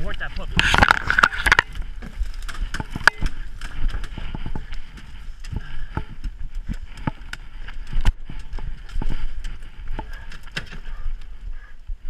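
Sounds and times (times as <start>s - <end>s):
footsteps through brush: 0.0s - 11.9s.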